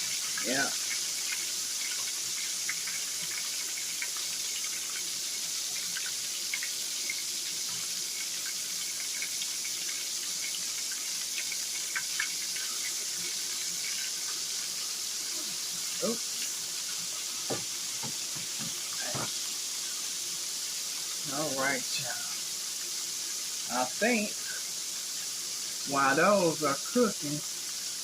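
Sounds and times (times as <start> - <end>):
liver frying in hot oil: 0.0 - 28.0
oil popping and crackling: 0.0 - 28.0.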